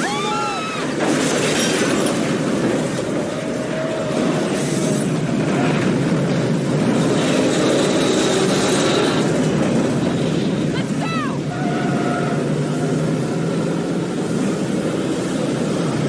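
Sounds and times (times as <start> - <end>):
tornado wind and debris rumble: 0.0 - 16.0.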